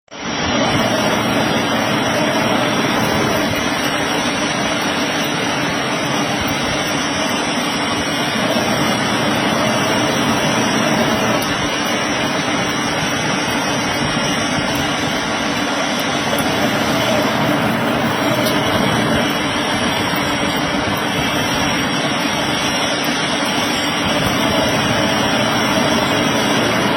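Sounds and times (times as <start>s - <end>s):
lathe running: 0.1s - 26.9s.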